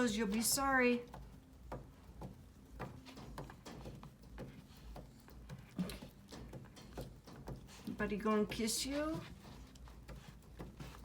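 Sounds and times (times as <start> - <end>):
light clicks and taps: 0.0 - 11.0.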